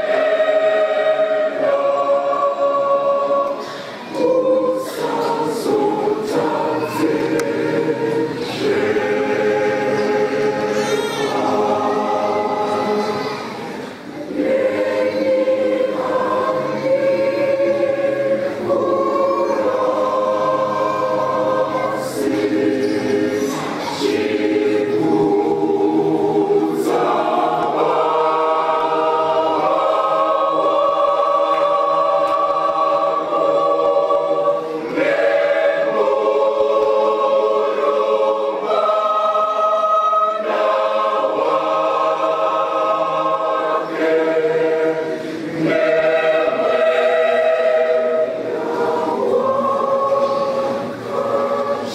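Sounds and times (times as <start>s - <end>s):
mixed choir singing in harmony: 0.0s - 51.9s.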